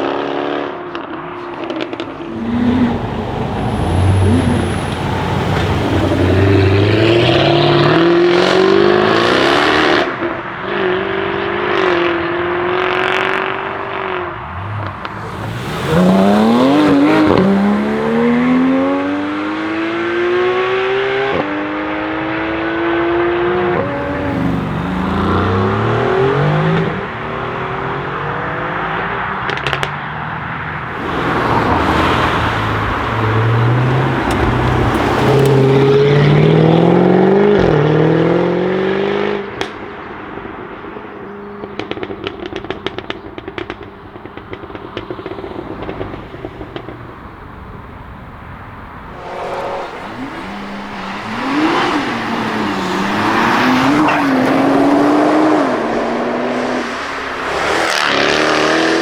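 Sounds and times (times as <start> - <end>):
car engine accelerating hard: 0.0 - 47.9, 48.7 - 59.0
exhaust crackles and pops: 0.8 - 18.5, 23.6 - 37.0, 39.5 - 58.4.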